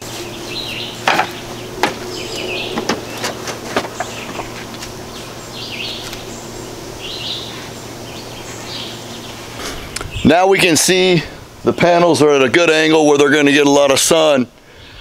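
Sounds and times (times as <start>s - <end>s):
birds chirping: 0.0s - 14.0s
steady low hum: 0.0s - 15.0s.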